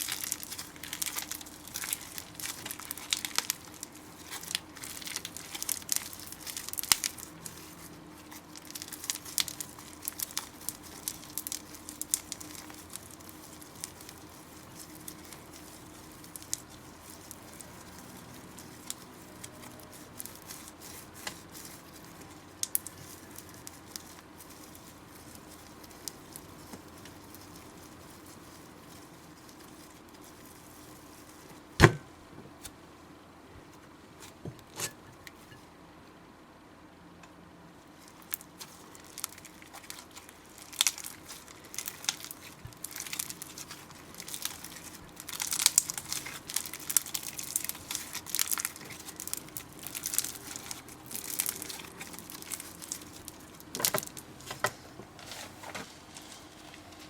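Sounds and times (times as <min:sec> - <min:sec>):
slime squelching and popping: 0:00.0 - 0:32.0, 0:38.0 - 0:54.7
faint steady hum: 0:00.0 - 0:57.0.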